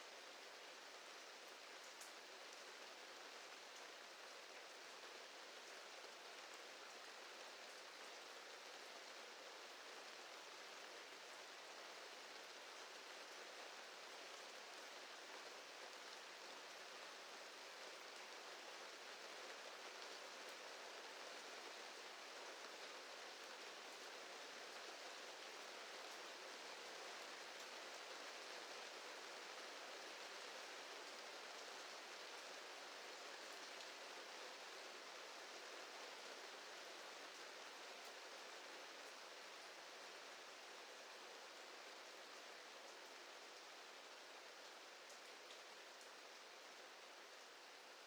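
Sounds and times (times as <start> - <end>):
soft rain falling: 0.0 - 48.0
faint raindrop ticks: 0.1 - 39.9, 44.9 - 46.5.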